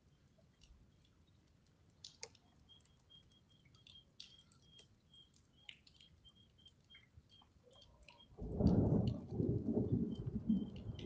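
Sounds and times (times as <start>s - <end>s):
raindrops ticking: 0.0s - 11.0s.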